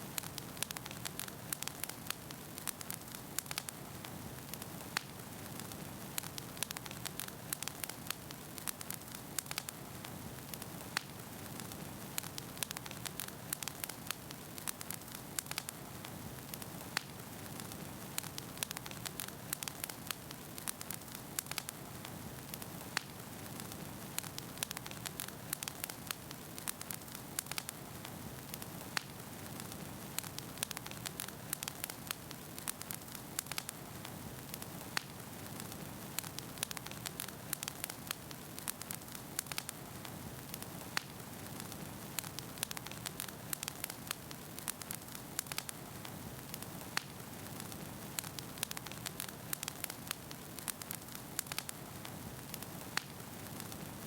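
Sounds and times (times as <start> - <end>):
burning logs crackling and popping: 0.0 - 54.0.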